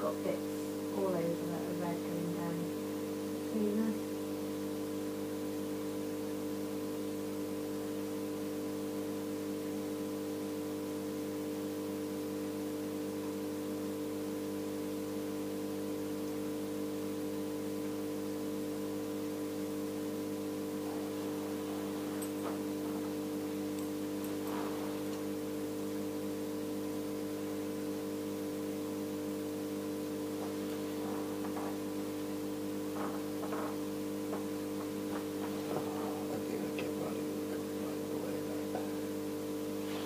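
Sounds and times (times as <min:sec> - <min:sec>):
aquarium air pump humming: 0:00.0 - 0:40.0.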